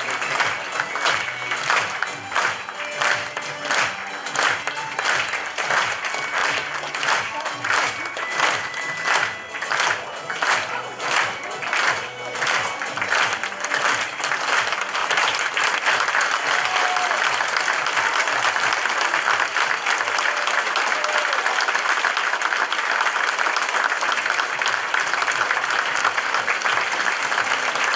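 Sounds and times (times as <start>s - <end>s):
audience applauding: 0.0s - 27.9s.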